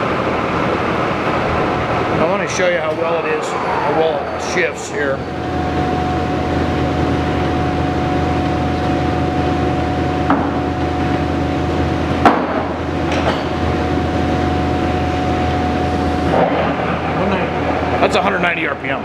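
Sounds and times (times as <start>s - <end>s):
lathe running with steady hum: 0.0s - 19.0s.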